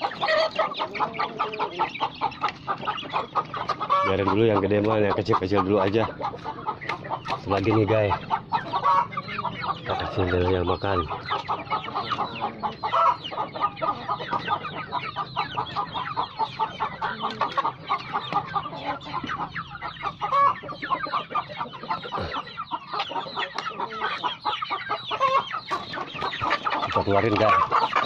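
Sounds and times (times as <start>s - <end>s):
young chickens clucking: 0.0s - 28.0s.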